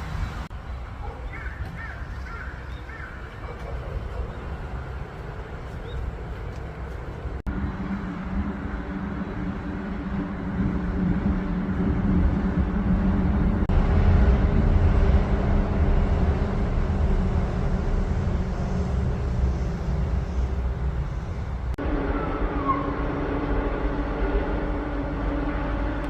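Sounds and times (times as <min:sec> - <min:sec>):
wind buffeting microphone: 0:00.0 - 0:26.0
steady low hum: 0:03.1 - 0:26.0.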